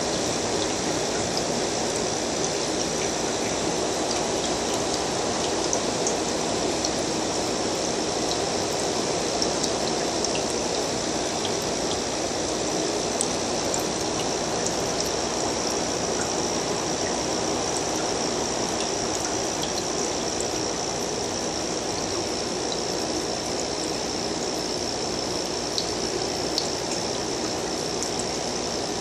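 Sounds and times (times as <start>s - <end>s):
water trickling in aquarium: 0.0s - 29.0s.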